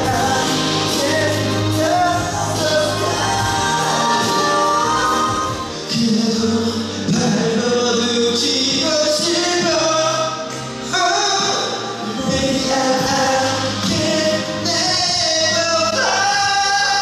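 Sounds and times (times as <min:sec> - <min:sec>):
man singing into a microphone: 0:00.0 - 0:17.0
musical accompaniment: 0:00.0 - 0:17.0.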